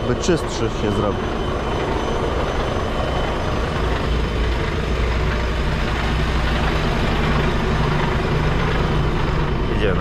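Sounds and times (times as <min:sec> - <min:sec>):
road noise: 0:00.0 - 0:10.0
truck diesel engine drone: 0:00.0 - 0:10.0.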